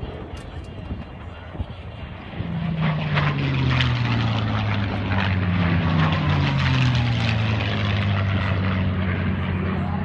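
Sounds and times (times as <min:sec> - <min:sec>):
propeller airplane droning past: 0:00.0 - 0:10.0.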